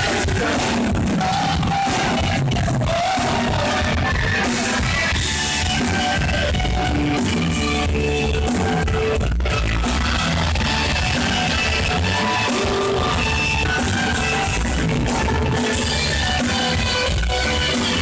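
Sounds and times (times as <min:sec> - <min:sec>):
drum kit: 0:00.0 - 0:18.0
electric guitars: 0:00.0 - 0:18.0
heavy bass: 0:00.0 - 0:18.0.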